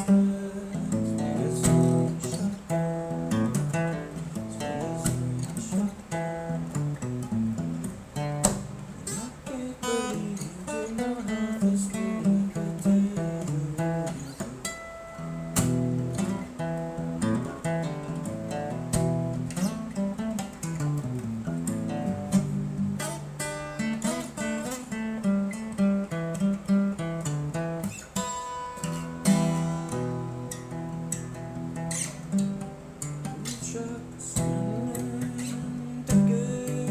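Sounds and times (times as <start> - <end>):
acoustic guitar playing blues: 0.0 - 36.9.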